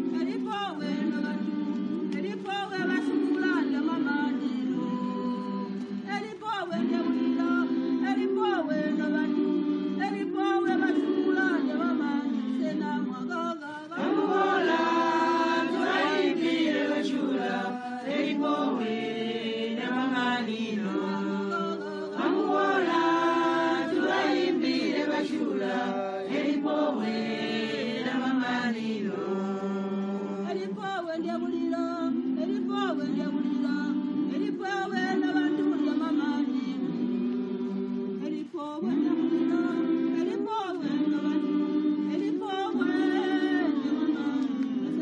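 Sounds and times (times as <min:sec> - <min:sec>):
chorus of voices chanting: 0:00.0 - 0:45.0.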